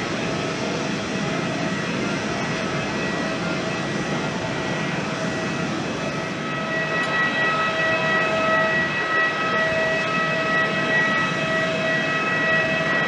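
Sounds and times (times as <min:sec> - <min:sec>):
jet engines rushing and whining: 0:00.0 - 0:13.0.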